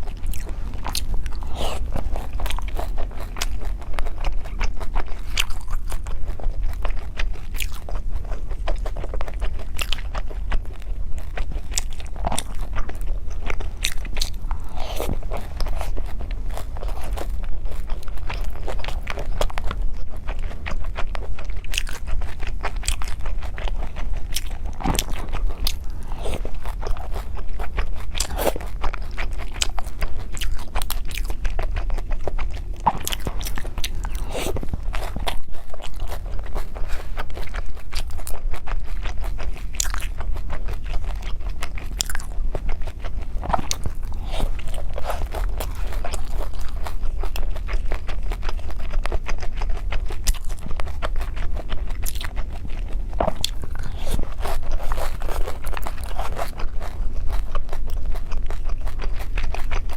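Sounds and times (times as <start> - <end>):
cake being chewed: 0.0 - 59.9
steady low hum: 0.0 - 59.9.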